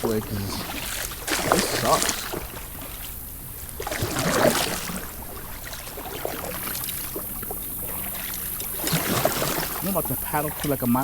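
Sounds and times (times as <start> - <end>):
paddle strokes splashing: 0.0 - 11.0
water washing past kayak: 0.0 - 11.0.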